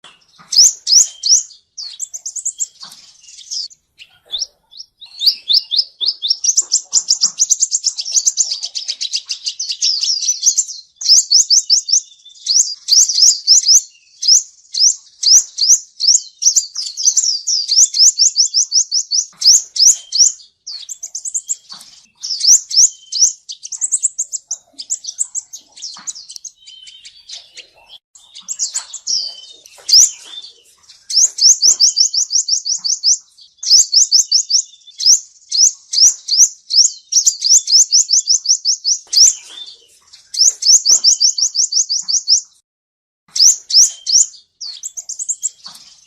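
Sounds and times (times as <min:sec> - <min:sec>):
sunbird singing: 0:00.0 - 0:42.6, 0:43.3 - 0:46.0.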